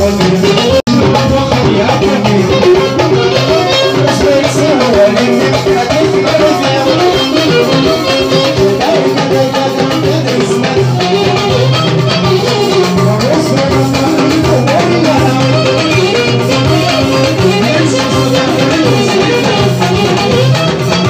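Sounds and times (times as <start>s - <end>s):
drum kit: 0.0s - 21.0s
hand drum: 0.0s - 21.0s.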